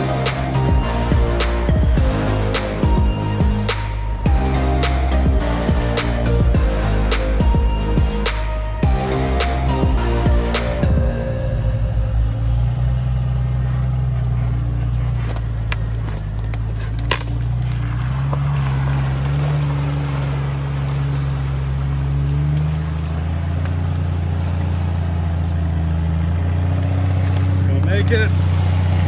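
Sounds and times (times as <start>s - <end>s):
off-road vehicle engine running: 0.0s - 29.0s.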